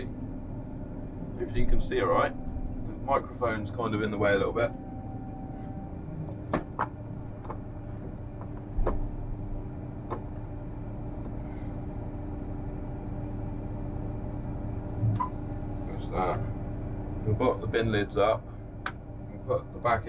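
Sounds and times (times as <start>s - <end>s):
combine harvester engine idling: 0.0s - 20.0s.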